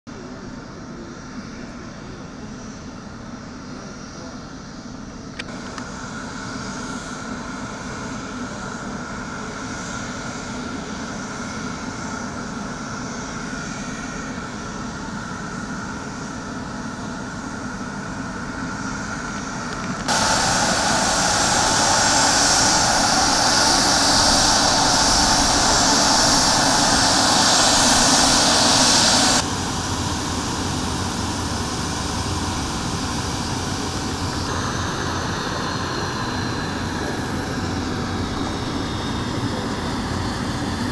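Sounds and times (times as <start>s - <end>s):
jet engines whining: 3.8s - 40.9s.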